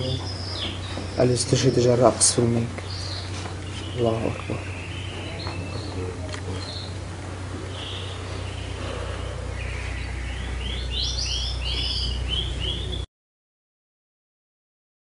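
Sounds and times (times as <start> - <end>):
bird chirping: 0.0 - 13.1
steady low hum: 0.0 - 13.1.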